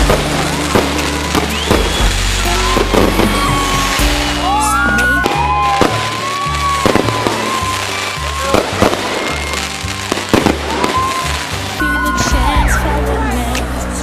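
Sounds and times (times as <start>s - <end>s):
fireworks bangs: 0.0s - 11.9s
pop music: 0.0s - 14.0s.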